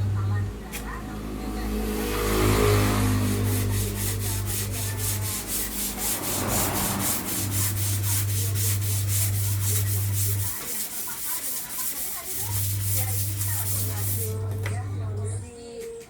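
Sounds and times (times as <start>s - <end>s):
steady low hum: 0.0s - 15.5s
rhythmic rubbing or scraping: 1.9s - 15.2s.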